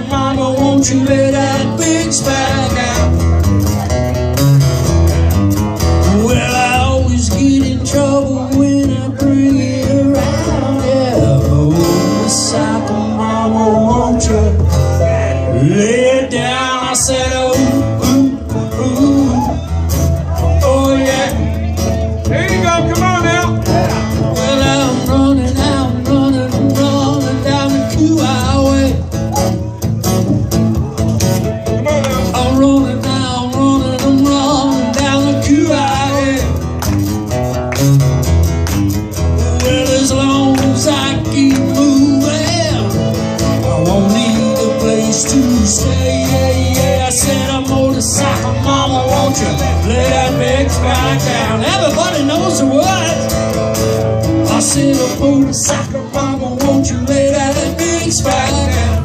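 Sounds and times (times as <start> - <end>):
acoustic guitars strumming: 0.0 - 59.0.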